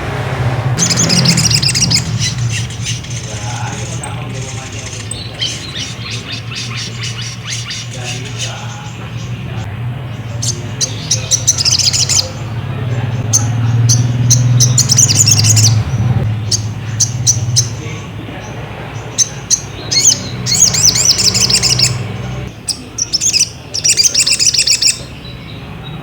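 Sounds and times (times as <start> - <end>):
sunbird chirping and trilling: 0.8 - 26.0.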